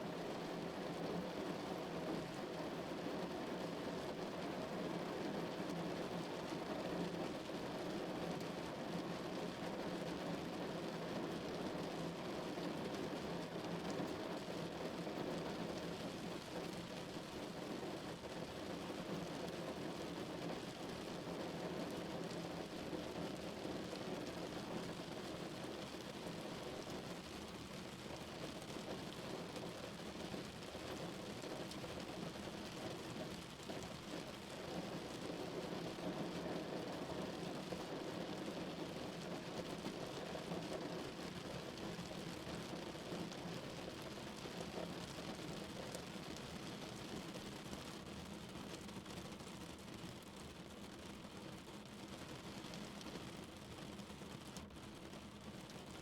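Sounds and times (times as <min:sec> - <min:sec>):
rain drumming on car roof: 0:00.1 - 0:56.0.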